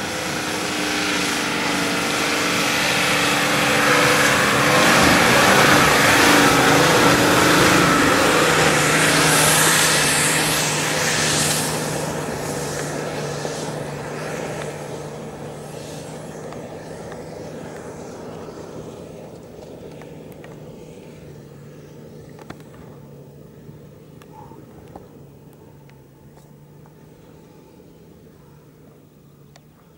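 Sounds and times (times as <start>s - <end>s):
suv engine working hard: 0.0s - 29.9s.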